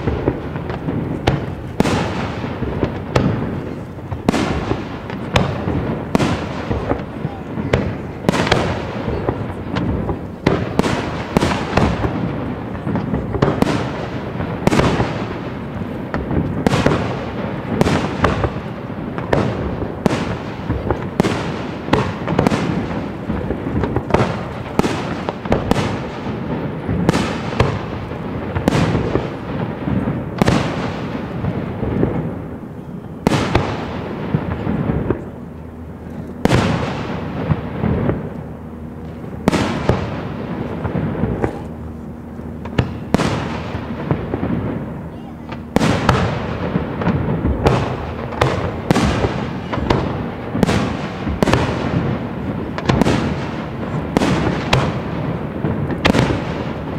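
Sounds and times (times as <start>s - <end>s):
continuous rumble: 0.0s - 56.9s.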